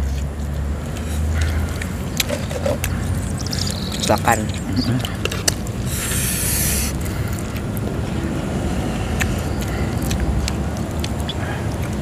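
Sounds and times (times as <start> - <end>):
chewing food: 0.0 - 12.0
steady low rumble: 0.0 - 12.0.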